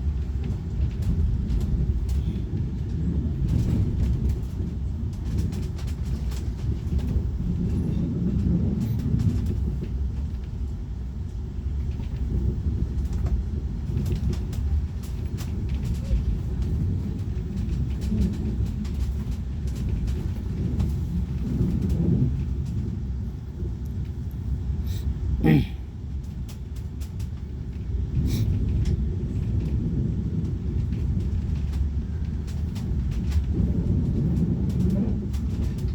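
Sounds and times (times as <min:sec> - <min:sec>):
faint clicks and rattles: 0:00.0 - 0:25.4, 0:26.1 - 0:35.9
train rumbling: 0:00.0 - 0:35.9.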